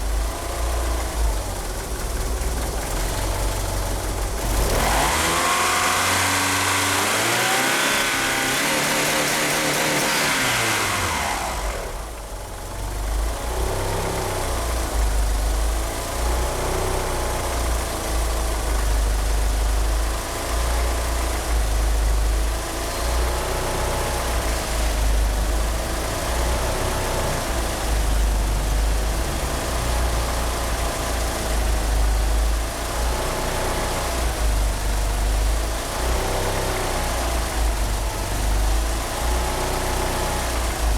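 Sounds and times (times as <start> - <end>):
car engine idling roughly: 0.0 - 40.9.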